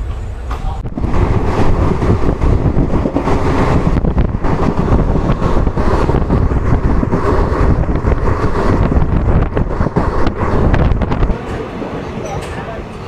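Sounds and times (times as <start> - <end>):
train rumbling along track: 0.0 - 13.0
wind buffeting microphone: 0.7 - 13.0.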